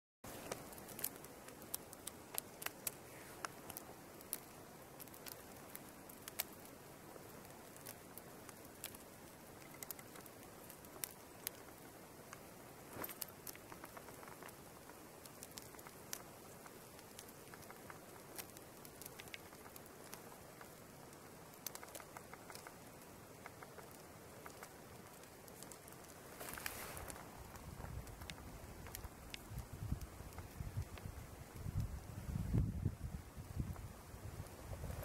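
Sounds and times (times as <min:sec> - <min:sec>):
faint outdoor hiss: 0:00.2 - 0:35.0
light ticks and crackles: 0:00.3 - 0:35.0.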